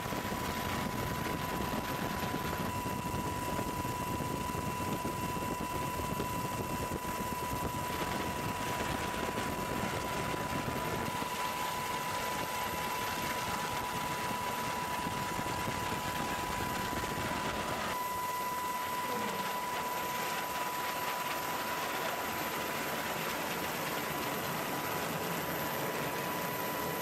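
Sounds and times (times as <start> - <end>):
aircraft turbine whine: 0.0 - 27.0.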